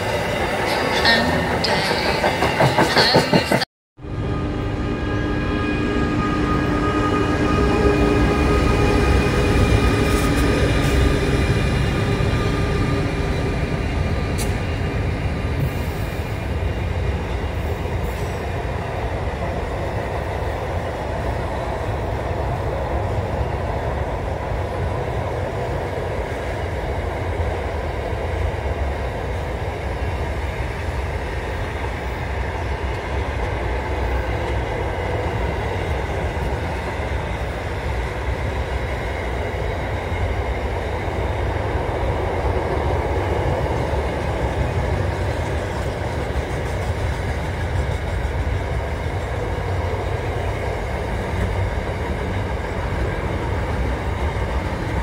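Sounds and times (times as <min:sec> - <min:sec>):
train wagons rumbling over bridge: 0:00.0 - 0:03.7, 0:04.3 - 0:55.0
diesel locomotive drone: 0:00.0 - 0:55.0.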